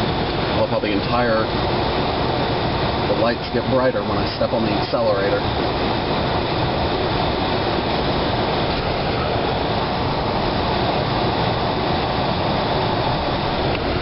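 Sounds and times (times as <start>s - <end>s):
car engine running: 0.0s - 14.0s
heater fan blowing: 0.0s - 14.0s
road and tyre noise: 0.0s - 14.0s.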